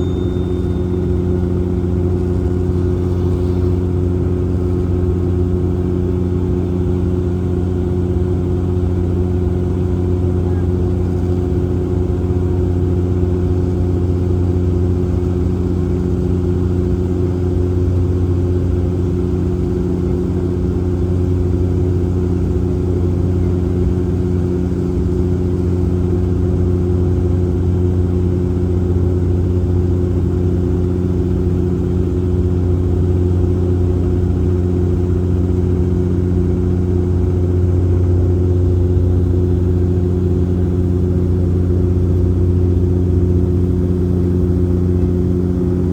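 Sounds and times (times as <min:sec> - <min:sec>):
turboprop engines humming: 0:00.0 - 0:45.9.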